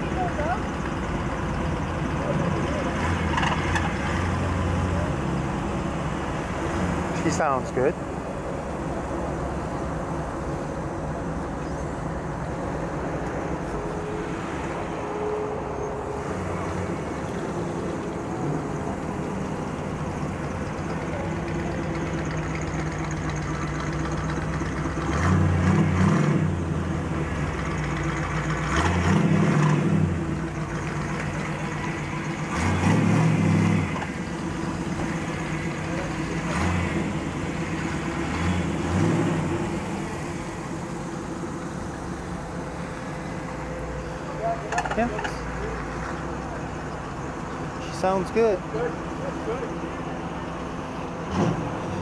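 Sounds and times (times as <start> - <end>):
car engine idling: 0.0 - 52.0
car engine revving: 0.0 - 52.0.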